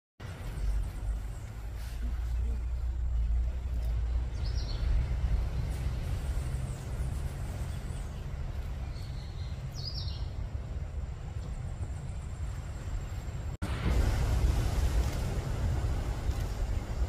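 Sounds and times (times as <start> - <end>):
low rumble: 0.2 - 17.0.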